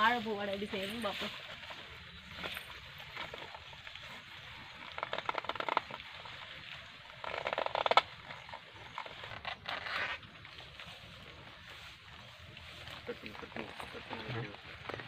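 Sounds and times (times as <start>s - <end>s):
leaves rustling: 0.0s - 15.0s.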